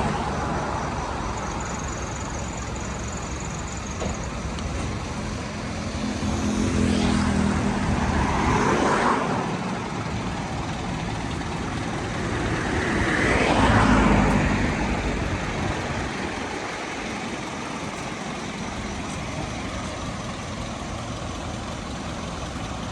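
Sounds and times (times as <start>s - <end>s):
traffic noise: 0.0s - 22.9s
vehicles passing close by: 0.0s - 22.9s.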